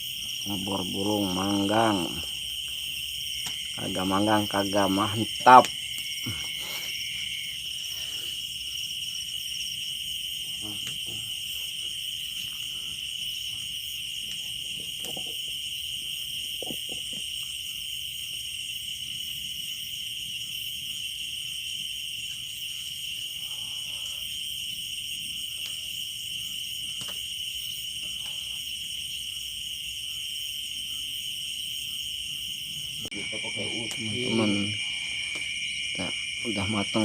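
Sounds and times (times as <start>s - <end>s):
night insects chirring: 0.0s - 37.0s.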